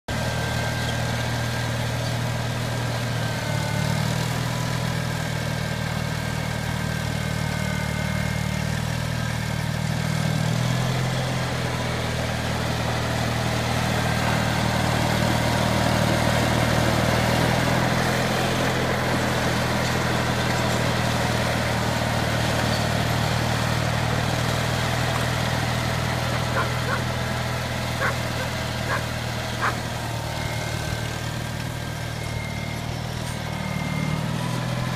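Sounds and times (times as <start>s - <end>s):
garden tractor engine running: 0.1s - 34.9s.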